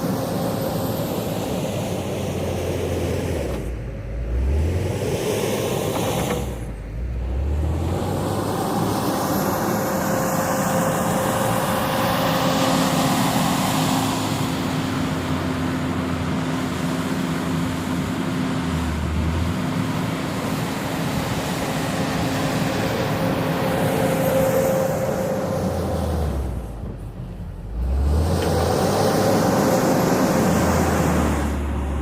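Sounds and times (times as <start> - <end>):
diesel engine droning: 0.0 - 32.0.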